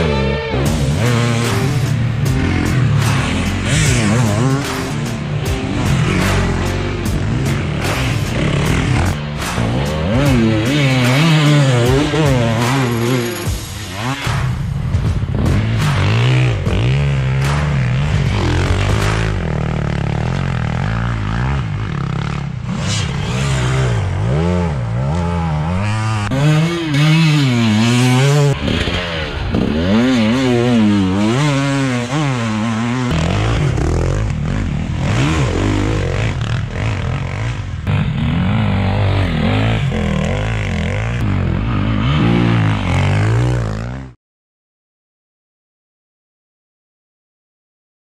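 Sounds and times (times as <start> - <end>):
dirt bike engine revving: 0.0 - 44.2.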